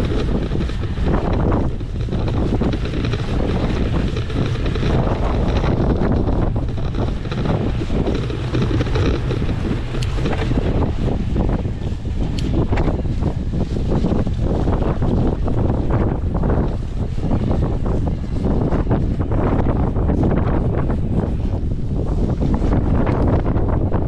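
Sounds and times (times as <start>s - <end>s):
bike rumbling over rough ground: 0.0s - 24.0s
wind buffeting microphone: 0.0s - 24.0s.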